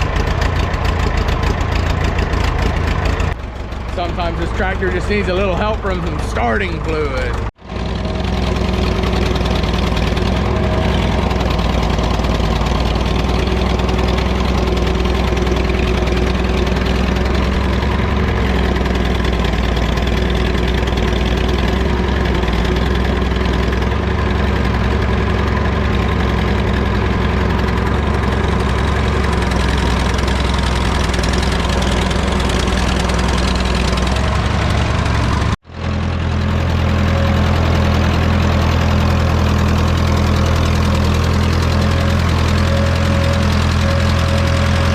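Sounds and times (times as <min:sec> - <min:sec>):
tractor engine idling: 0:00.0 - 0:44.9.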